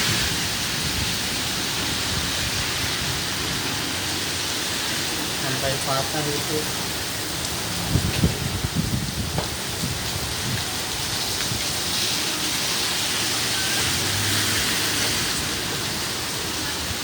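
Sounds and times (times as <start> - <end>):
heavy rain splashing: 0.0 - 17.0.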